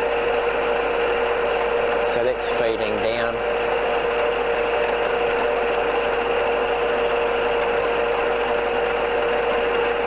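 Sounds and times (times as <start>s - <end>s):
drill machine hum: 0.0s - 10.0s.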